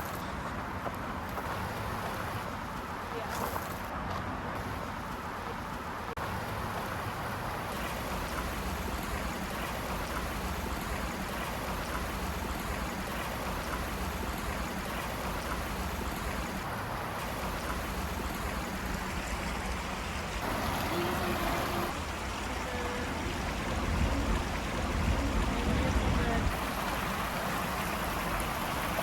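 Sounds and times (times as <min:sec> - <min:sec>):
creek water flowing: 0:00.0 - 0:29.0.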